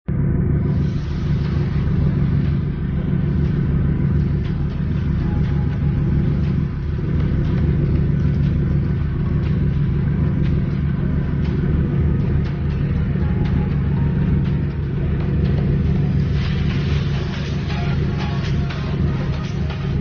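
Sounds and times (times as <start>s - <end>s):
ferry engine droning: 0.0s - 20.0s.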